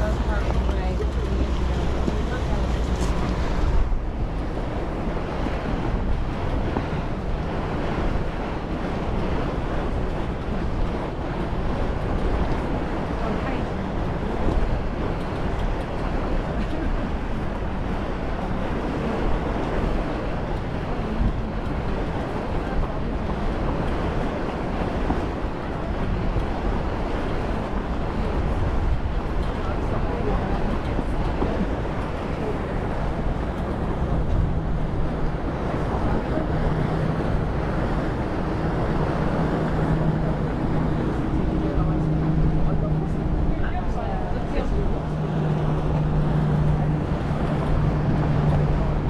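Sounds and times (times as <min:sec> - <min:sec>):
ferry engine rumble: 0:00.0 - 0:49.0
water rushing past: 0:00.0 - 0:49.0
wind: 0:00.0 - 0:49.0.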